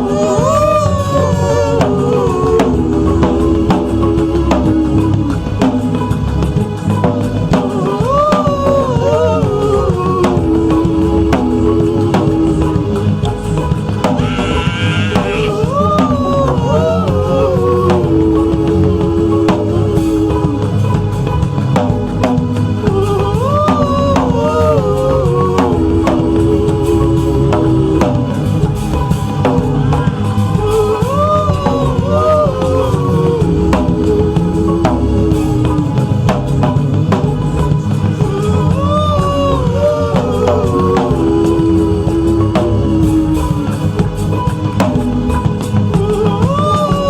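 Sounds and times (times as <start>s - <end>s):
gospel music with drum beat: 0.0s - 47.0s.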